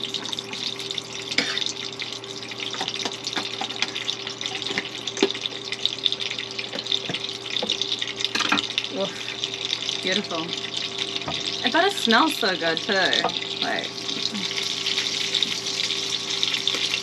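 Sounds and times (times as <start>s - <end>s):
faint steady hum: 0.0s - 17.0s
vegetables sizzling in a frying pan: 0.0s - 17.0s.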